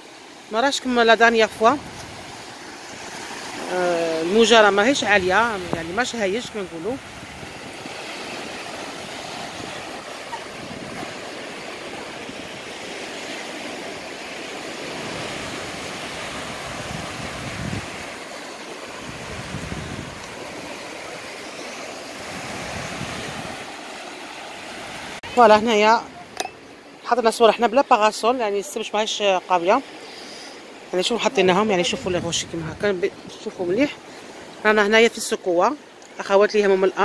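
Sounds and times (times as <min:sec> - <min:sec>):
gentle sea waves breaking: 0:00.0 - 0:37.0.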